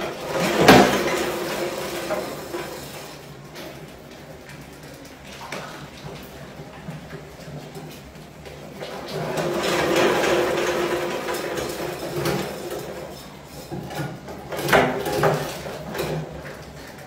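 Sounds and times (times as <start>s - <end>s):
cans turning and rattling: 0.0s - 17.0s.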